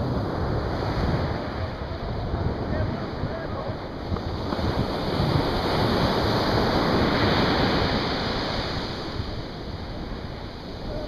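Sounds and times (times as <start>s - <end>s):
ocean surf breaking on beach: 0.0s - 11.0s.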